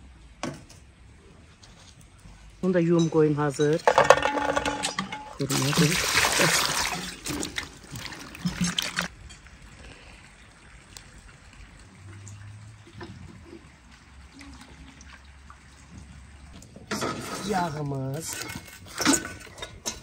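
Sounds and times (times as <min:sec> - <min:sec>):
water sloshing: 0:03.4 - 0:20.0
water pouring into metal basin: 0:04.0 - 0:20.0.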